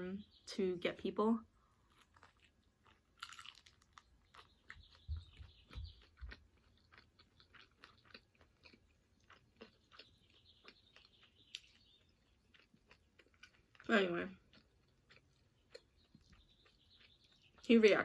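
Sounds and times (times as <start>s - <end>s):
chewing with wet mouth clicks: 1.8s - 17.7s.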